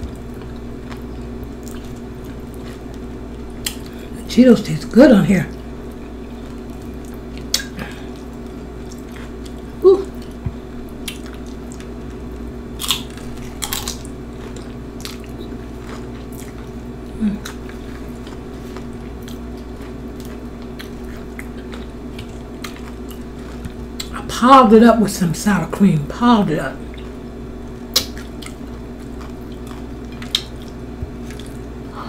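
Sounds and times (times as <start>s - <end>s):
low background hum: 0.0s - 32.0s
chewing and crunching snacks: 0.1s - 4.1s, 5.5s - 24.3s, 26.8s - 31.8s.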